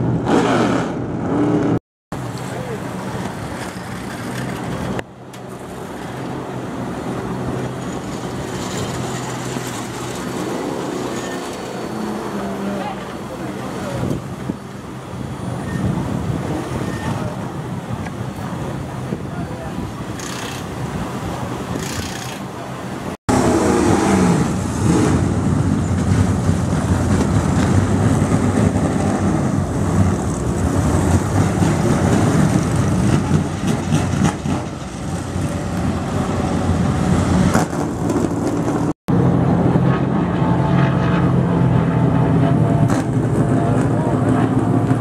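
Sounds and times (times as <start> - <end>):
race truck engines roaring: 0.0 - 45.0.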